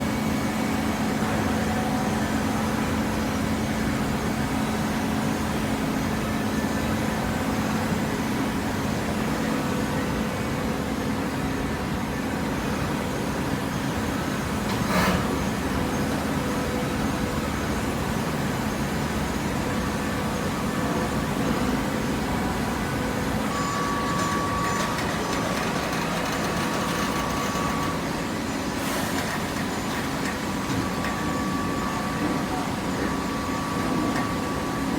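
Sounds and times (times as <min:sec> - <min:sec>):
hydraulic power unit humming: 0:00.0 - 0:34.9.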